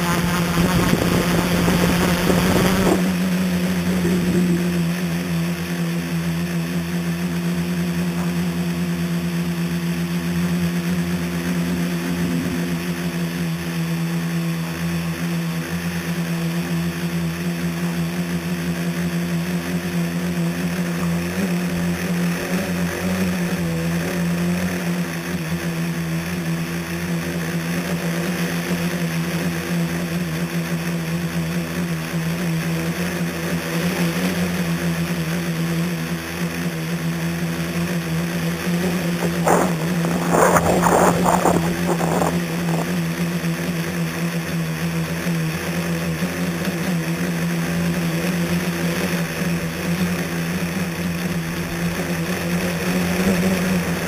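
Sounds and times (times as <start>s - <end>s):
drone motors and propellers humming: 0.0s - 54.0s.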